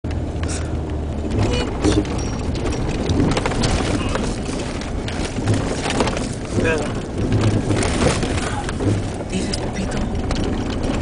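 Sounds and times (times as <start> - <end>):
engine and tyres rumbling: 0.0 - 11.0
vehicle rattles and knocks: 0.1 - 11.0.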